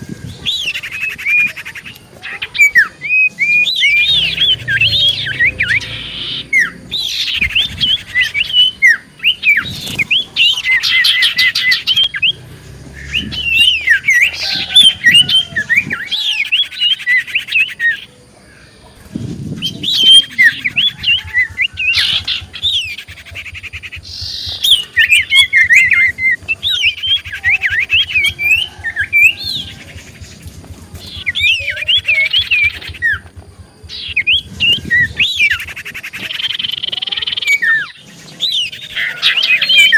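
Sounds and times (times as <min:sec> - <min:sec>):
bird chattering and whistling: 0:00.0 - 0:39.9.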